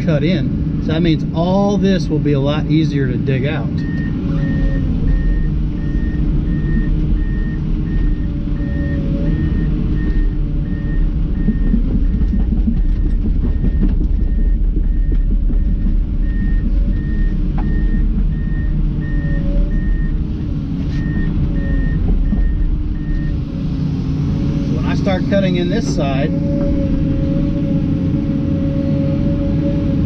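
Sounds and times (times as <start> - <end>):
excavator engine and hydraulics: 0.0 - 30.0
high beeping alarm: 3.8 - 30.0.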